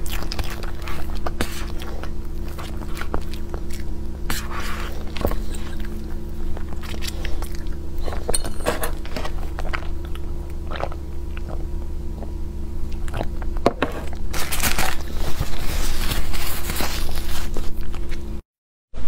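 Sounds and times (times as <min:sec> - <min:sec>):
person chewing: 0:00.0 - 0:18.3
steady low hum: 0:00.0 - 0:18.4.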